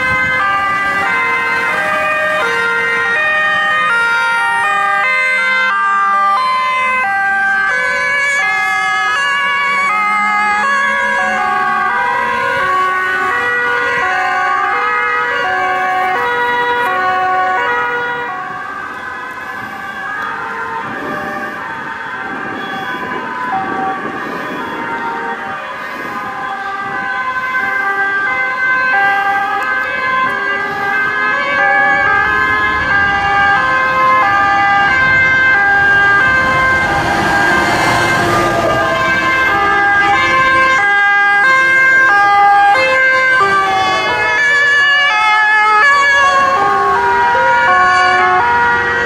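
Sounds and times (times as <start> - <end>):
fire engine two-tone sirens: 0.0 - 49.0
fire truck engine rumble: 0.0 - 49.0.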